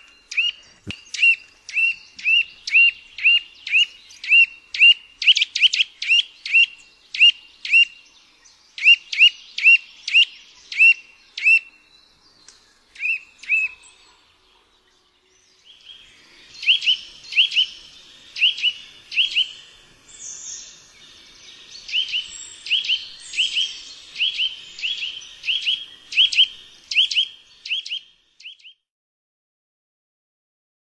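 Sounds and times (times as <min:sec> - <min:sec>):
nuthatch calling: 0:00.0 - 0:08.1, 0:08.7 - 0:11.8, 0:12.9 - 0:14.7, 0:15.6 - 0:28.8.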